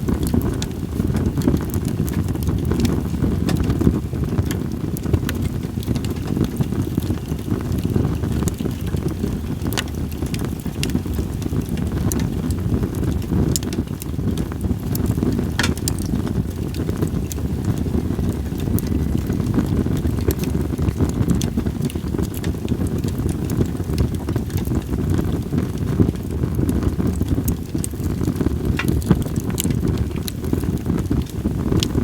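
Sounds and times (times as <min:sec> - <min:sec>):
campfire crackling and popping: 0:00.0 - 0:32.0
wind on microphone: 0:00.0 - 0:32.0.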